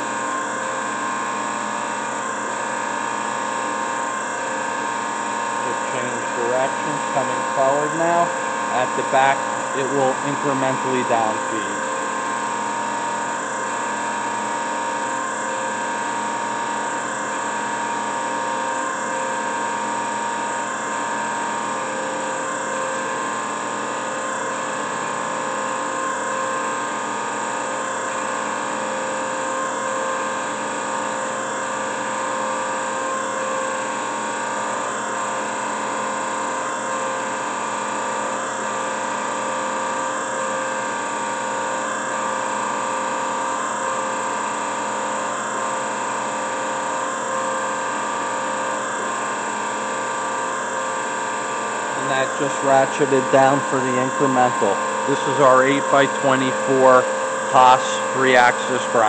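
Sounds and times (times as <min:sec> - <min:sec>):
grinder motor hum and whine: 0:00.0 - 0:59.0.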